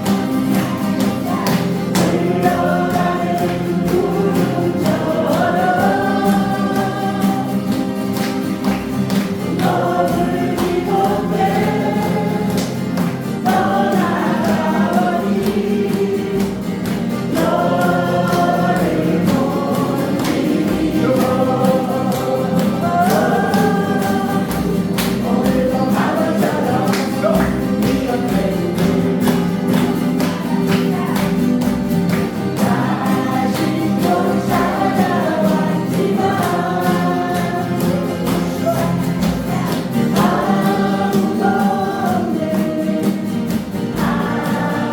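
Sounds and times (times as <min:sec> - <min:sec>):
group singing in unison: 0:00.0 - 0:44.9
strummed acoustic guitars: 0:00.0 - 0:44.9.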